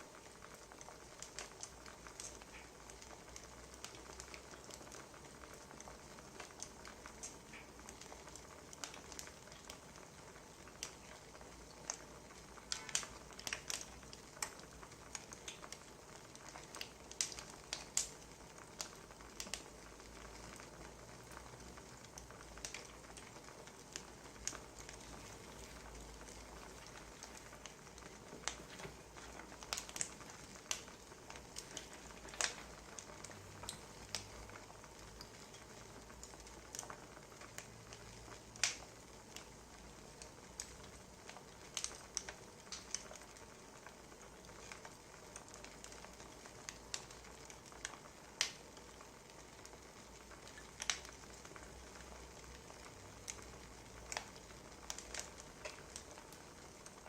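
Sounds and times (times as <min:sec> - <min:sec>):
fire popping and snapping: 0:00.0 - 0:57.0
low steady hiss: 0:00.0 - 0:57.0
wood fire crackling: 0:00.0 - 0:57.0.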